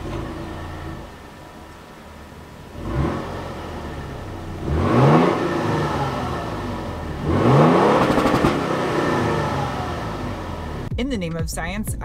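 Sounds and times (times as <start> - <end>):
engine revving and idling: 0.0 - 10.9.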